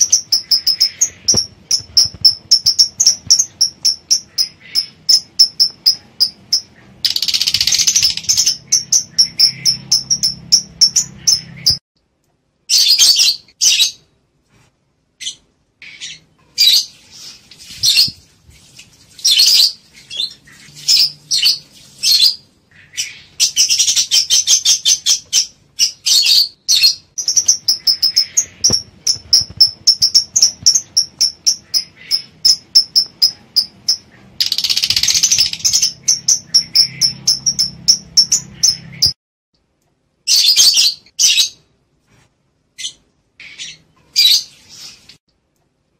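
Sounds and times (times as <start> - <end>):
lovebirds chattering: 0.0 - 11.8, 15.2 - 18.2, 19.2 - 39.2, 42.8 - 45.0.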